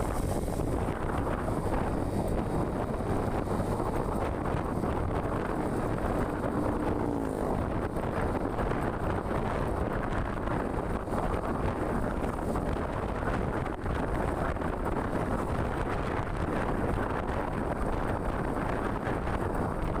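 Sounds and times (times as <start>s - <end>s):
moving vehicle engine and road noise: 0.0s - 20.0s
wind buffeting the microphone: 0.0s - 20.0s.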